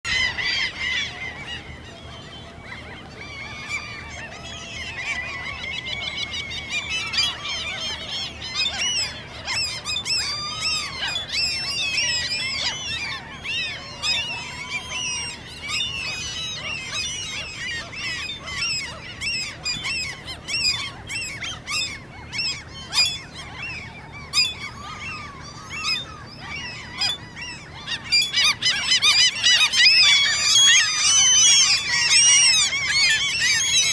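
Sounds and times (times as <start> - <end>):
gulls squeaking calls: 0.1 - 33.9.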